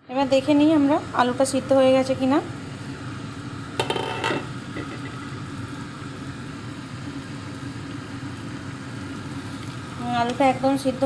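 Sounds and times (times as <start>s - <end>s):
kitchen appliance humming: 0.1s - 11.0s.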